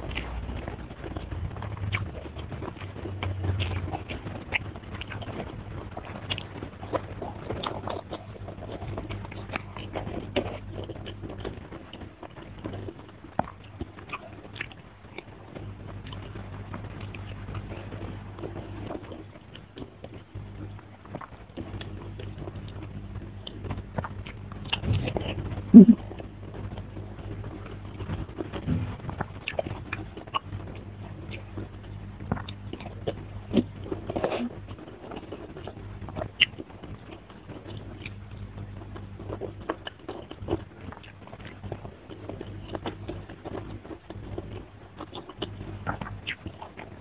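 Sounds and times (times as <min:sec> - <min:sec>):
chewing and wet mouth sounds: 0:00.0 - 0:47.0
low steady hum: 0:00.0 - 0:47.0.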